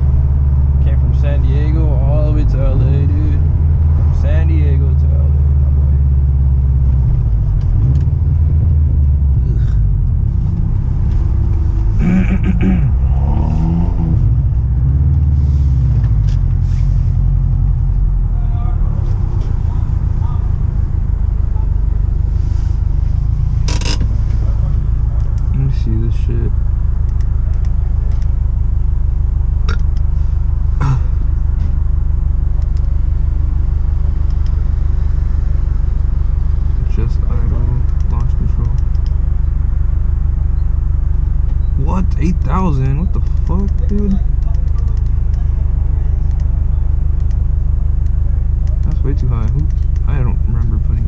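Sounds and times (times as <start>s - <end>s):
car engine rumble: 0.0s - 51.0s
road noise inside car: 0.0s - 51.0s.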